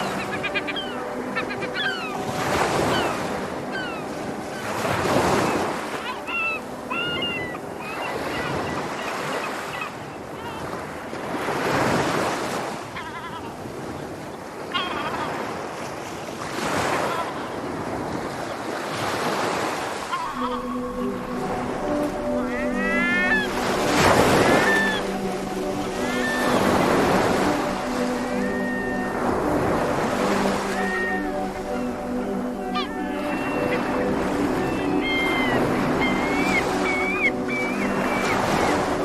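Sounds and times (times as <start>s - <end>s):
sea waves washing ashore: 0.0s - 39.0s
seagulls calling: 0.0s - 39.0s.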